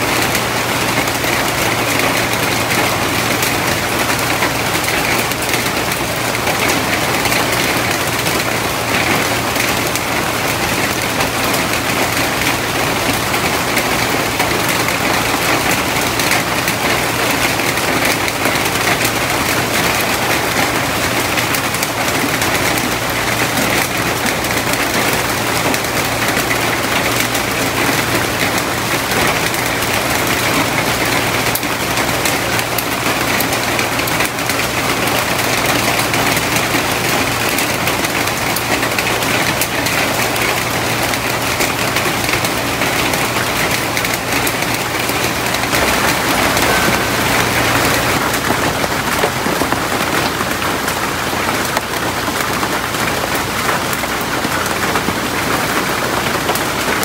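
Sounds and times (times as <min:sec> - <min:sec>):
rain on leaves: 0:00.0 - 0:57.0.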